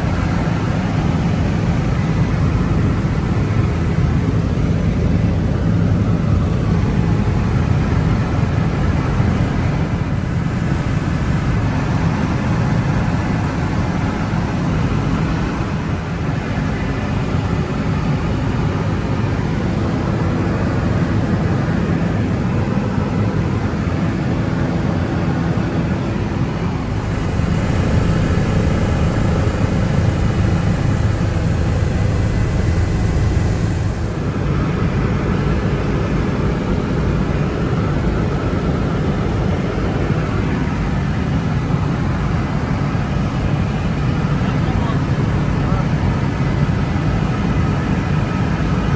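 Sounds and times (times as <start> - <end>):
helicopter cabin drone: 0.0 - 48.9.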